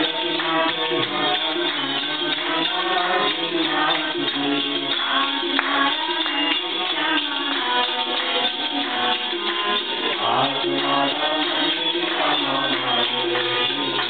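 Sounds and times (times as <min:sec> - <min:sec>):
shaken percussion: 0:00.0 - 0:14.0
woman singing: 0:00.0 - 0:14.0.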